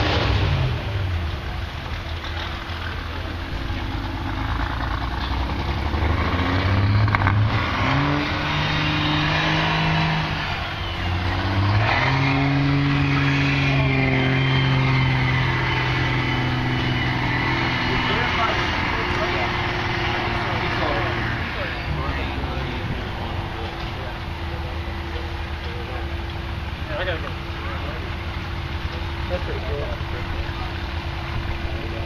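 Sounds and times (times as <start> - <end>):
large vehicle engine revving: 0.0 - 32.0.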